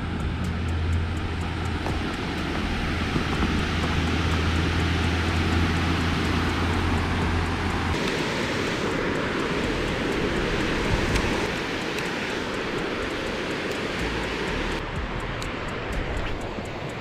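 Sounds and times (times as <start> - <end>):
water rushing over dam spillway: 0.0 - 17.0.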